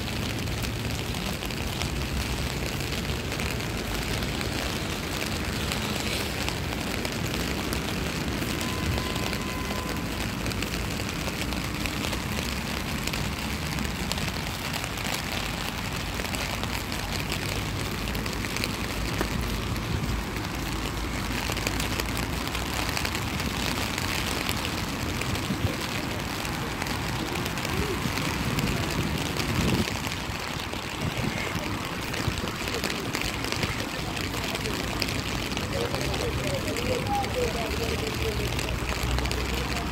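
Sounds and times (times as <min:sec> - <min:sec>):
rain on umbrella and street: 0:00.0 - 0:39.9.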